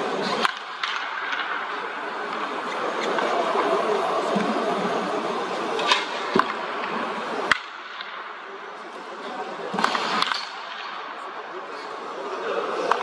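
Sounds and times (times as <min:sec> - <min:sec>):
steady background din: 0:00.0 - 0:13.0.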